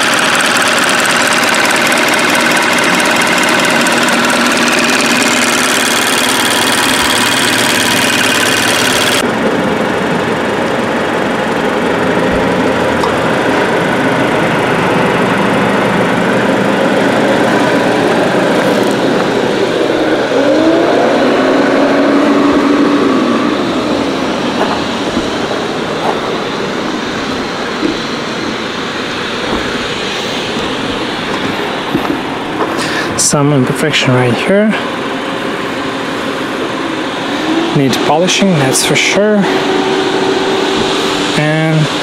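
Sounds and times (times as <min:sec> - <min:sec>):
motor vehicle running: 0:00.0 - 0:42.0.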